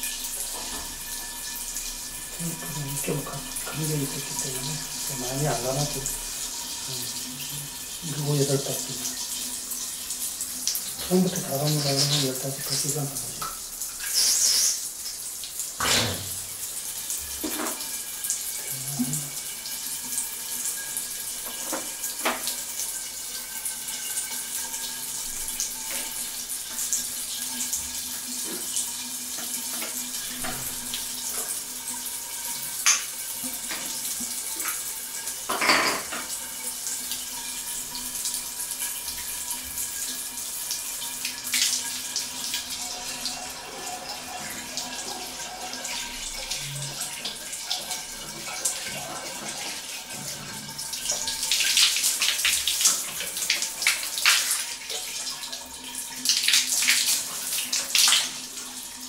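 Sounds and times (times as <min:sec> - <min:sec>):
water pouring from pipe: 0:00.0 - 0:59.0.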